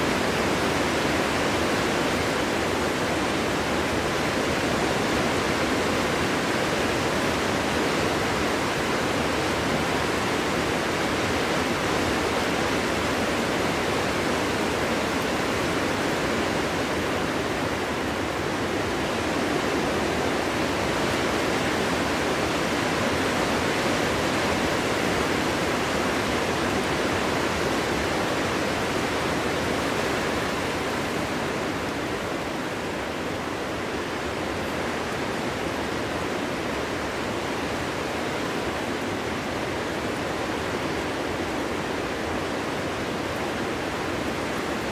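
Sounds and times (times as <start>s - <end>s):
wind blowing through forest: 0.0s - 44.9s.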